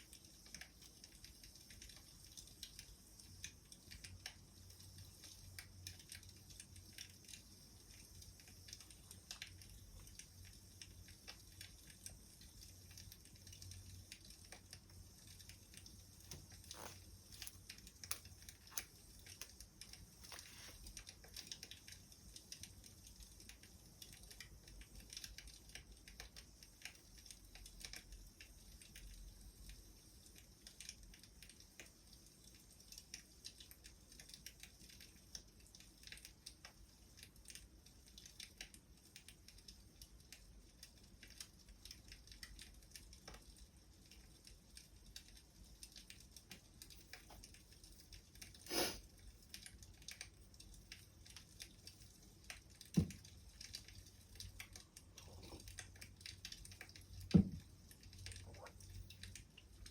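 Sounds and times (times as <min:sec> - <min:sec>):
wood fire crackling softly: 0:00.0 - 0:59.9.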